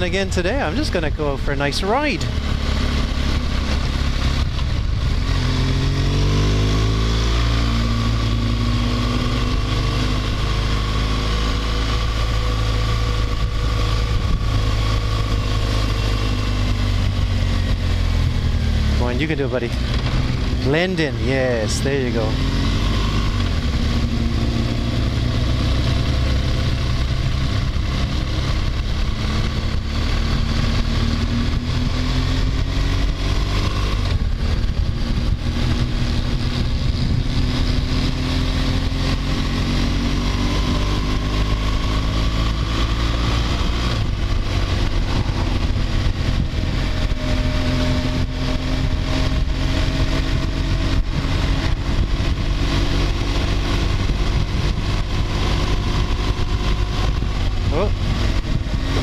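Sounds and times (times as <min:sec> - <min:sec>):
heavy wind rush: 0:00.0 - 0:59.0
motorcycle engine running: 0:00.0 - 0:59.0.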